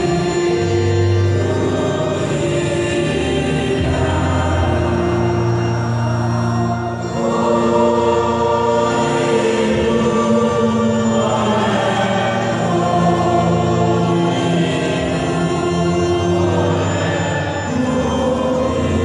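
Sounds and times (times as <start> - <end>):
congregation singing: 0.0 - 19.0.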